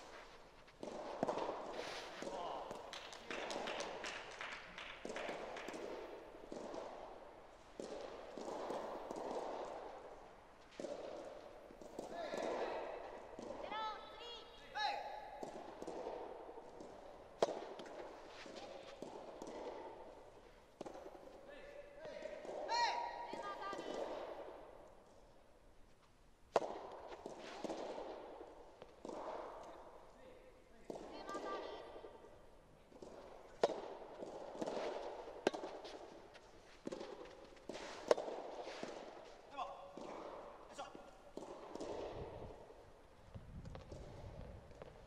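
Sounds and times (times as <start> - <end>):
racket hitting tennis ball: 0.0 - 25.5, 26.4 - 45.0
footsteps in a hall: 0.0 - 45.0.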